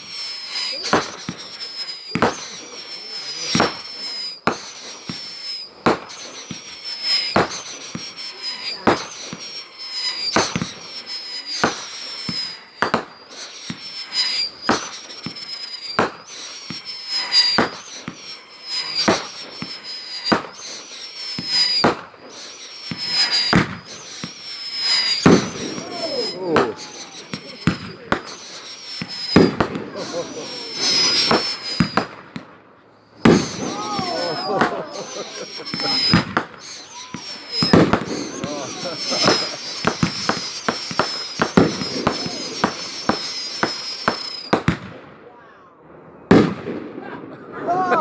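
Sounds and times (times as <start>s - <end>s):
firework crackles: 0.0s - 45.2s, 46.2s - 48.0s
firework bangs: 0.0s - 45.3s, 46.2s - 48.0s
firework whistles: 0.0s - 48.0s.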